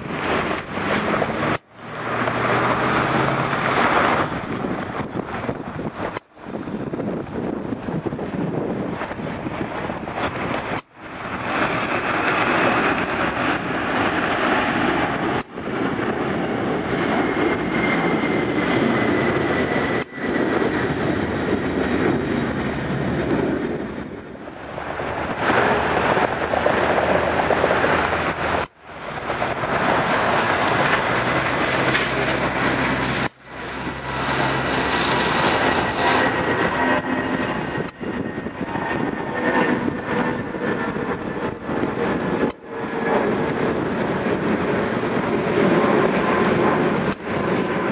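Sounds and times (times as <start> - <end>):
jet airliner roaring on takeoff: 0.0 - 47.9
jet engine whine: 0.0 - 47.9.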